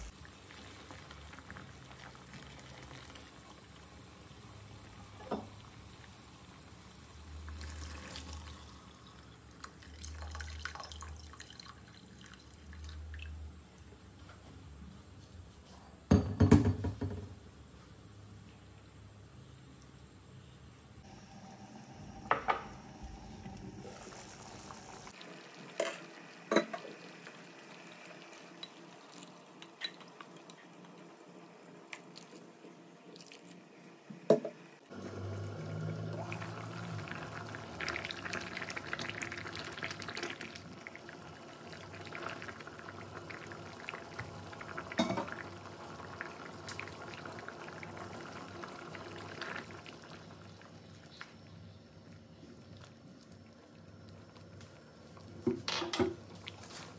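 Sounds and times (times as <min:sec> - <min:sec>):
porridge bubbling in a pot: 0:00.0 - 0:14.7, 0:19.1 - 0:33.8, 0:34.8 - 0:56.9.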